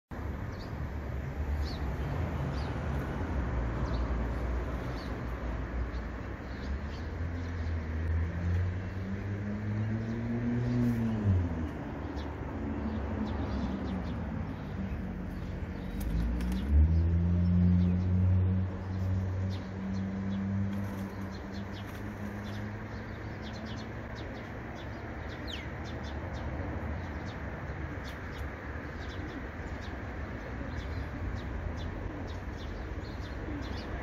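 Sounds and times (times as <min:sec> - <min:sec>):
passing traffic engine hum: 0:00.2 - 0:34.0.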